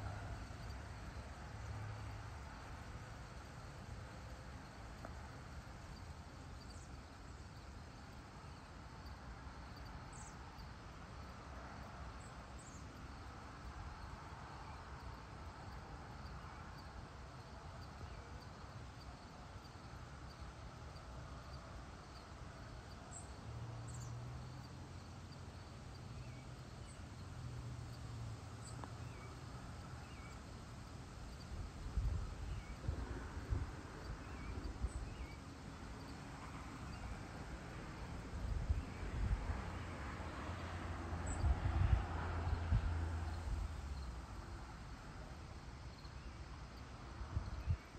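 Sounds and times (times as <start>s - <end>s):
crickets and insects chirping: 0.0s - 47.9s.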